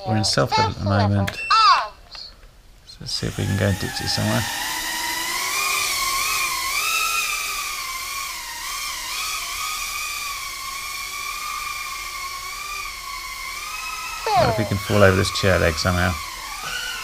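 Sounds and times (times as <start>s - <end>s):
quadcopter motors whining: 3.2s - 17.0s.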